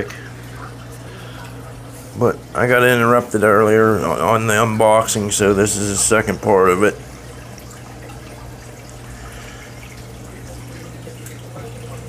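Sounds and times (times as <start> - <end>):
low pump hum: 0.0 - 12.0
trickle of running water: 0.0 - 12.0.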